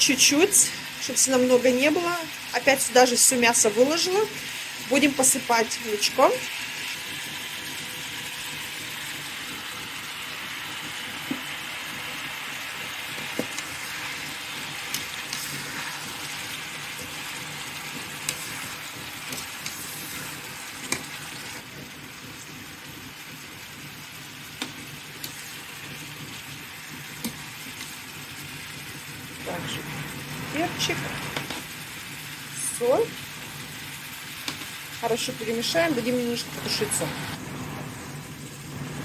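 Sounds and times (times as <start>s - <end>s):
meat and onion sizzling in oil: 0.0s - 39.0s.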